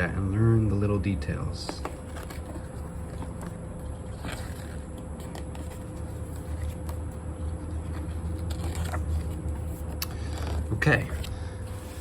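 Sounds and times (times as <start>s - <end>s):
packaging being handled: 1.6s - 12.0s.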